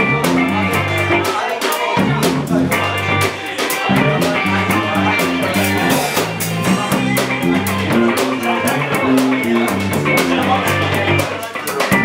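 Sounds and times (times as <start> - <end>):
walking electric bass line: 0.0 - 1.4, 2.0 - 12.0
drum kit: 0.0 - 12.0
electric guitar: 0.0 - 12.0.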